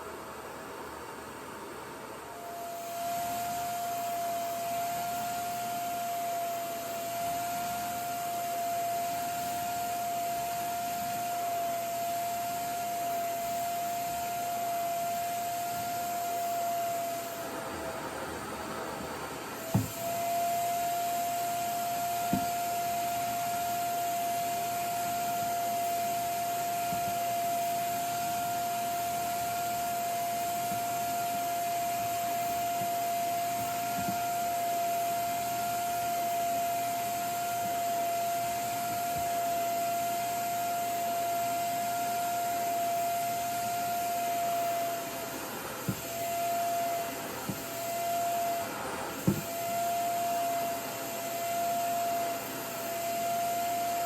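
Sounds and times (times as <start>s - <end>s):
hair dryer whining: 1.9s - 54.0s.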